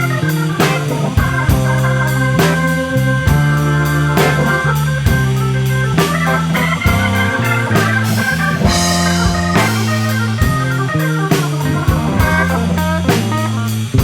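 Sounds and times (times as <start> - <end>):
bass: 0.0 - 14.0
drum hits: 0.0 - 14.0
guitar: 0.0 - 14.0
organ: 0.0 - 14.0.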